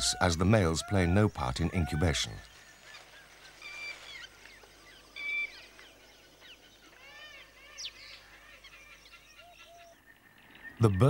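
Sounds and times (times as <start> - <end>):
peafowl honking calls: 0.0 - 10.0.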